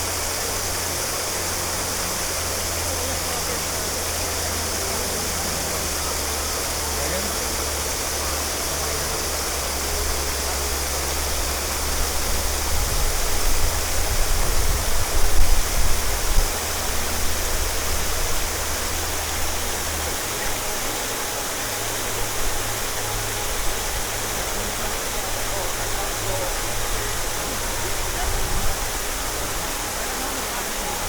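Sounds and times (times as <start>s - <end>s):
falling water rushing: 0.0s - 31.0s.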